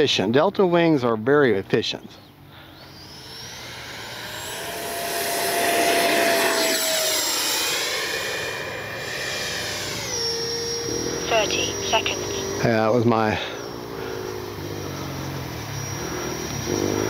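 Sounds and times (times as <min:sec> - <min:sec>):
electric ducted fan whine: 0:02.3 - 0:17.0.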